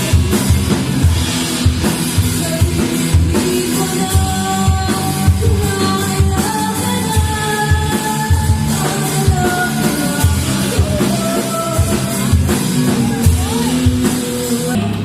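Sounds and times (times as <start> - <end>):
person singing: 0.0 - 1.1, 2.2 - 15.0
drums and guitar: 0.0 - 15.0.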